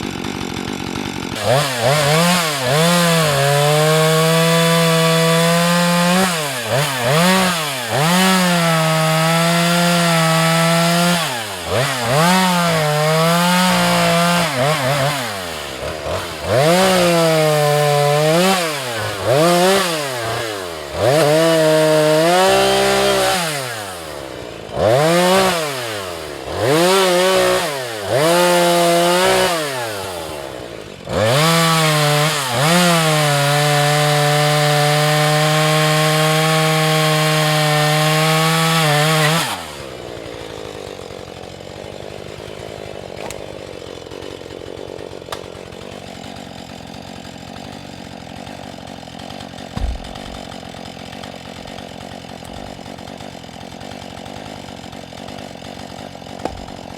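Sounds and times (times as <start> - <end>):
chainsaw revving and idling: 0.0 - 56.9.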